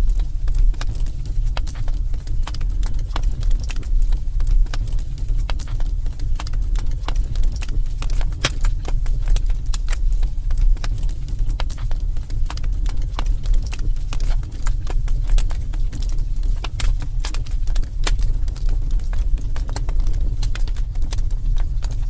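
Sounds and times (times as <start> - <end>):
fire crackling and popping: 0.0 - 22.0
low rumble: 0.0 - 22.0.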